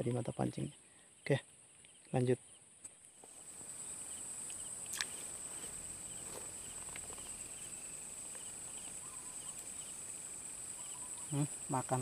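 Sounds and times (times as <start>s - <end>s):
insects trilling: 0.0s - 12.0s
short insect chirp: 0.0s - 12.0s.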